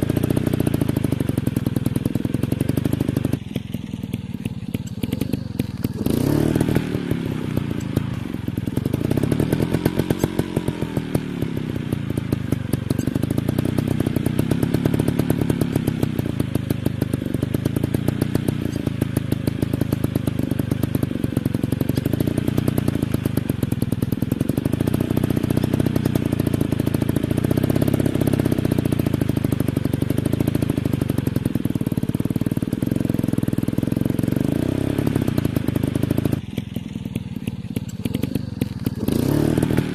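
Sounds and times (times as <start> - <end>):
dirt bike engines revving: 0.0 - 29.6, 34.2 - 39.9.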